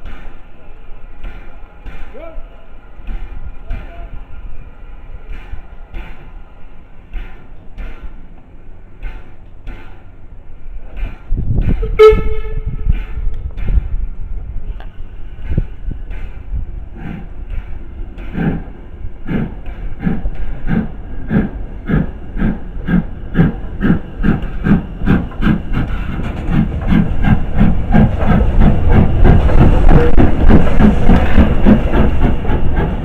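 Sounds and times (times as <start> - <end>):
steam locomotive exhaust beats: 0.0 - 33.0
low rumble: 2.6 - 33.0.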